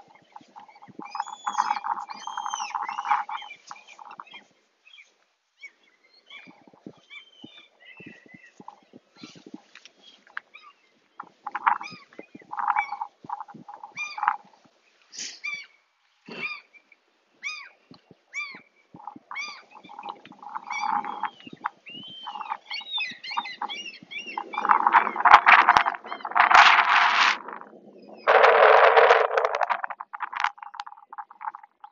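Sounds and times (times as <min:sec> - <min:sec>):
birds calling: 0:00.0 - 0:14.6, 0:15.2 - 0:31.9.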